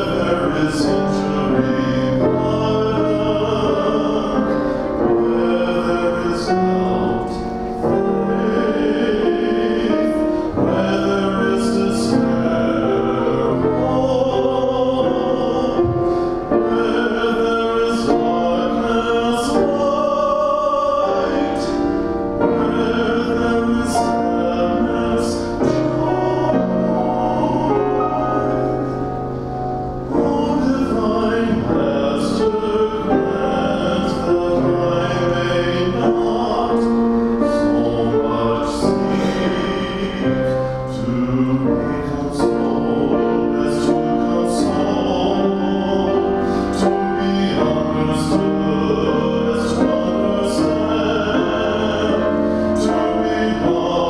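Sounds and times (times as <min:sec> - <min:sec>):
man singing slow song: 0:00.0 - 0:29.0, 0:30.1 - 0:54.0
keyboard accompaniment: 0:00.0 - 0:54.0.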